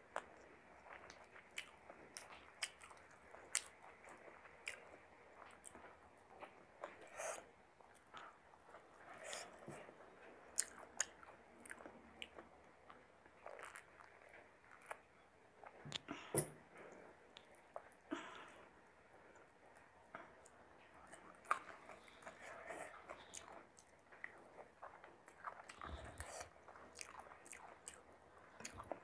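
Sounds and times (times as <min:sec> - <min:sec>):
person chewing food: 0:00.1 - 0:29.0.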